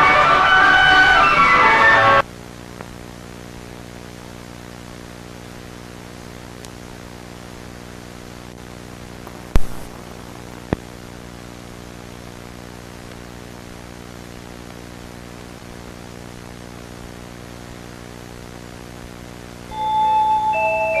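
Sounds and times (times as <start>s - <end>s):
tape hiss: 0.0s - 21.0s
steady electrical hum: 2.2s - 20.4s.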